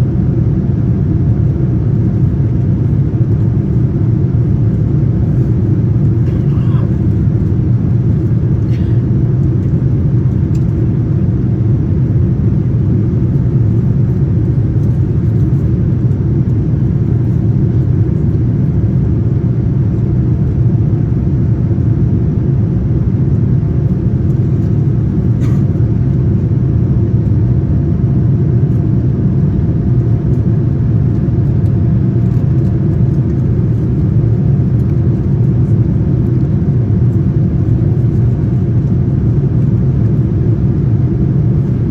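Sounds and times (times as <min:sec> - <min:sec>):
airplane cabin engine rumble: 0:00.0 - 0:41.9
faint steady hum: 0:00.0 - 0:41.9.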